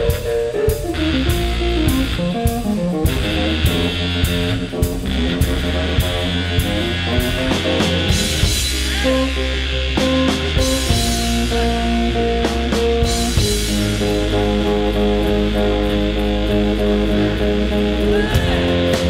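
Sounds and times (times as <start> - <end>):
drum kit with cymbal hits: 0.0 - 19.0
electric guitar sustained notes: 0.0 - 19.0.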